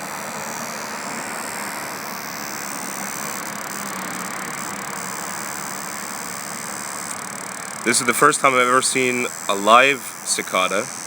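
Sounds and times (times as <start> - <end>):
cicada buzzing: 0.0 - 11.0.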